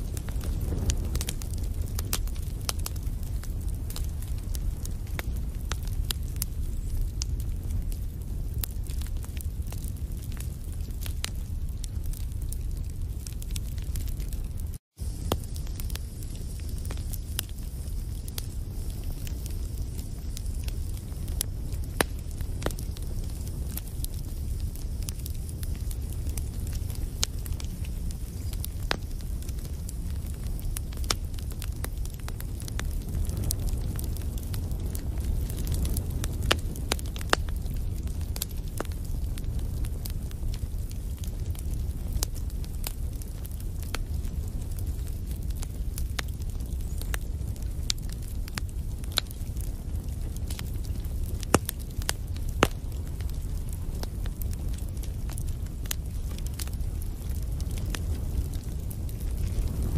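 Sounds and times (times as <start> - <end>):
burning logs crackling and popping: 0.0 - 59.9
low rumble of flames: 0.0 - 59.9.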